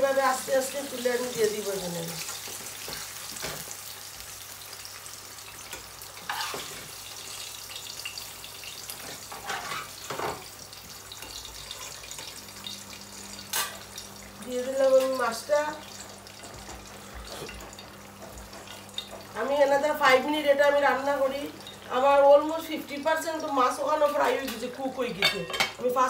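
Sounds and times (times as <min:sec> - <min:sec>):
hot oil sizzling in a frying pan: 0:00.0 - 0:26.0.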